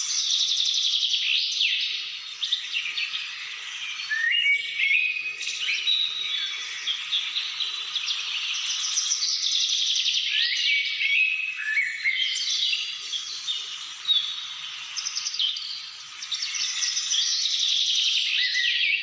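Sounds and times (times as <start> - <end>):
birds singing and chirping: 0.0 - 19.0.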